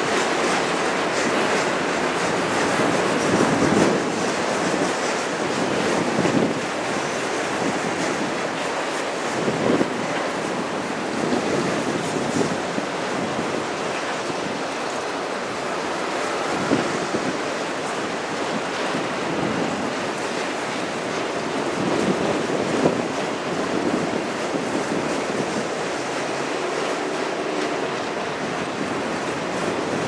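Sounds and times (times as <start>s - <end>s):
steel wheels rolling on rail: 0.0s - 30.0s.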